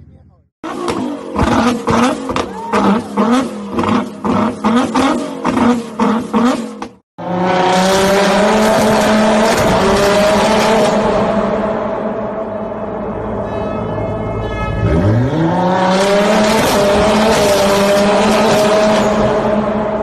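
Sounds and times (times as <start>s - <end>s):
car engine revving: 0.6s - 13.4s, 14.8s - 20.0s.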